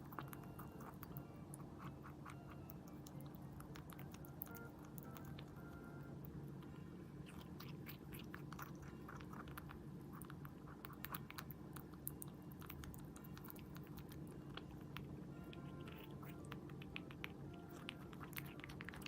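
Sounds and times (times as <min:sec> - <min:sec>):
faint steady hum: 0:00.0 - 0:19.0
rabbit munching fruit: 0:00.0 - 0:19.0.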